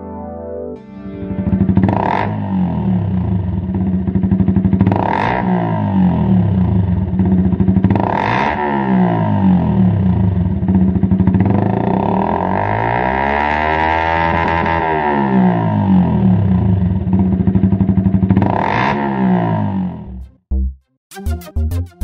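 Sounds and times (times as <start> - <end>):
motorcycle engine idling and revving: 1.5 - 20.2.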